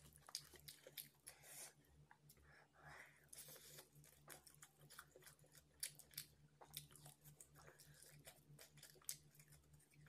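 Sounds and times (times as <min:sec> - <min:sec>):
person chewing with lip smacks: 0:00.0 - 0:02.5, 0:03.3 - 0:10.0.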